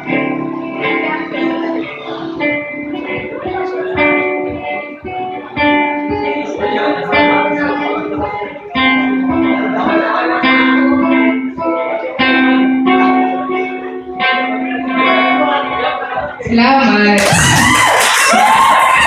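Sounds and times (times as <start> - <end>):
guitar plucked and strummed chords: 0.0 - 19.0.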